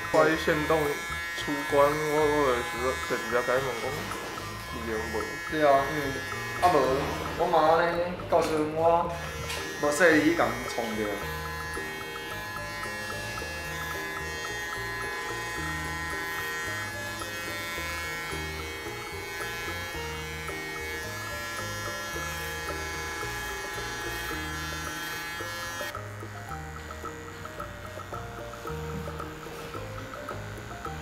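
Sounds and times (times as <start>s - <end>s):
background music: 0.0s - 31.0s
electric hair clippers buzzing: 0.0s - 31.0s.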